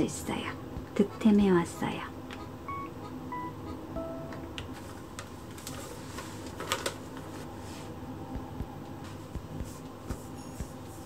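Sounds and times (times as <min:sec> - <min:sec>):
quiet background music: 0:00.0 - 0:05.6, 0:06.9 - 0:11.0.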